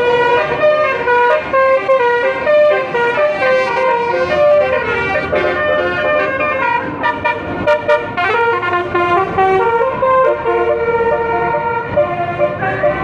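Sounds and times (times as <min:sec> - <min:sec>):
bus musical horn playing tune: 0:00.0 - 0:13.0.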